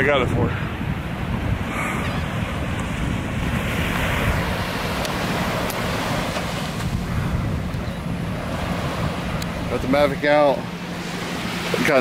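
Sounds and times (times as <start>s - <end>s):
small surf on beach: 0.0s - 12.0s
wind buffeting microphone: 0.0s - 12.0s.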